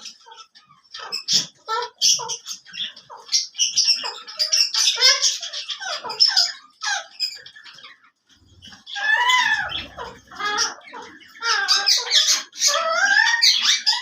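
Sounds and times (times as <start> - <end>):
parakeet squawking and chattering: 0.0 - 14.0.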